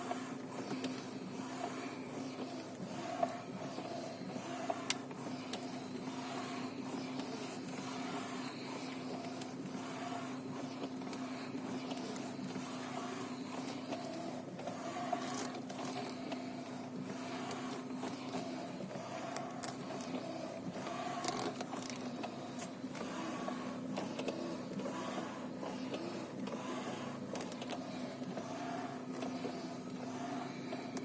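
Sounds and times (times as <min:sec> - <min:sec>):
power steering whirring hum: 0:00.0 - 0:31.0.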